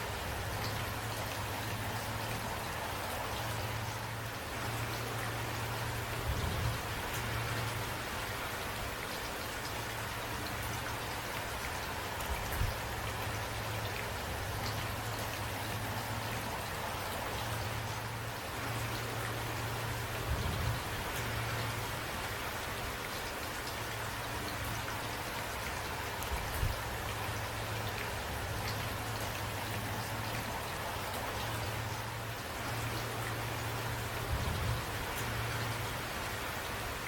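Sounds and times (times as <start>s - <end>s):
steady rain: 0.0s - 37.0s.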